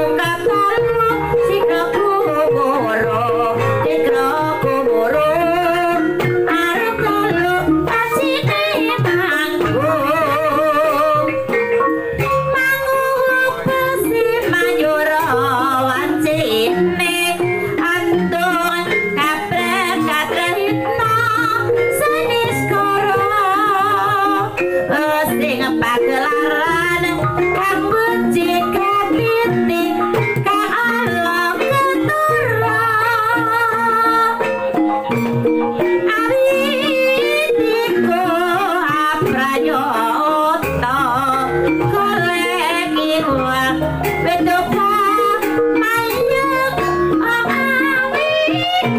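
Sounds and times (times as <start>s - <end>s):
person singing: 0.0s - 11.5s, 12.6s - 34.5s, 36.0s - 48.9s
hand drum rhythm: 0.0s - 48.9s.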